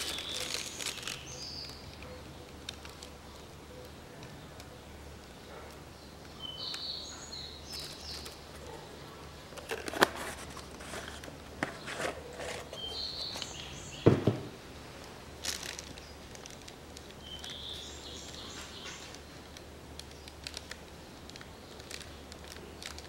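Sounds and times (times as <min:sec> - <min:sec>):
small birds chirping: 0:00.0 - 0:14.6, 0:15.3 - 0:23.0.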